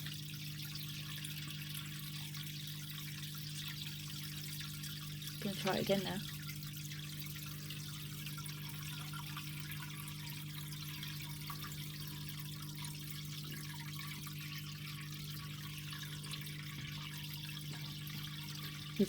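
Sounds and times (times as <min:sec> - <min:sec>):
water trickling in a tank: 0:00.0 - 0:19.0.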